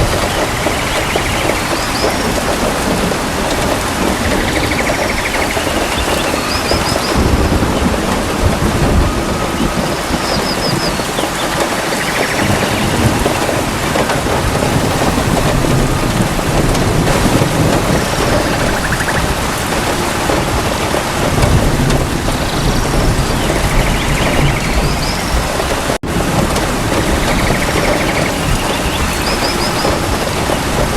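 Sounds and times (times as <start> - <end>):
heavy rain: 0.0 - 30.9
low thunder rumbling: 0.0 - 30.9.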